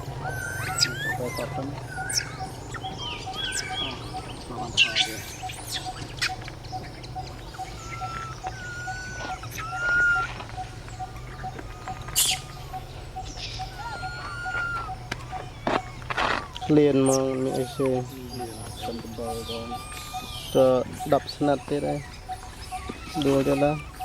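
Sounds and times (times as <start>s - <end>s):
bird chirps and whistled calls: 0.0s - 24.0s.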